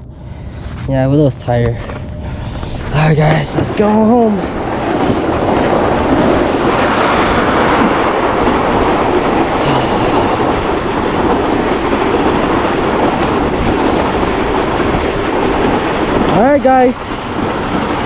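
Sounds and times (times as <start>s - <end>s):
electric scooter rumbling over ice: 0.6s - 16.4s.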